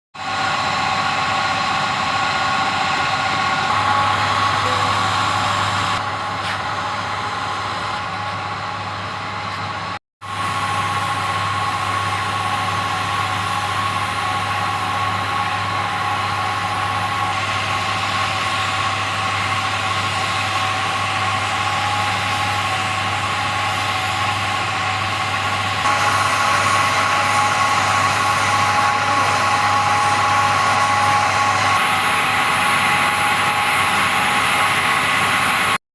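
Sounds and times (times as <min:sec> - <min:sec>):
machine humming and whining: 0:00.2 - 0:35.8.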